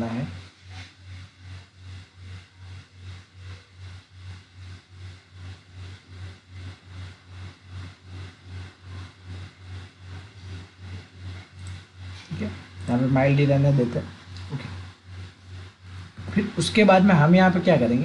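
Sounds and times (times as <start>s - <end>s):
pulsing machine hum: 0.0s - 18.0s.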